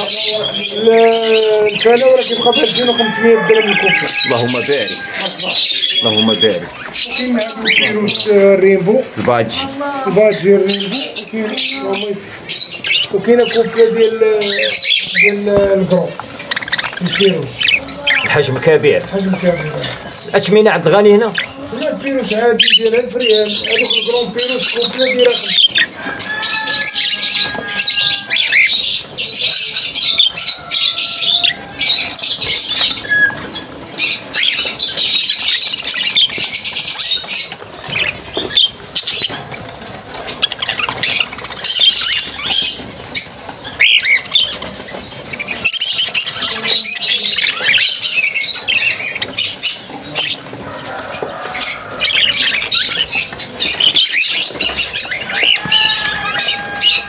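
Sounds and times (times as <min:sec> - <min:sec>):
budgerigars chattering and chirping: 0:00.0 - 0:57.0
wings fluttering: 0:00.0 - 0:57.0.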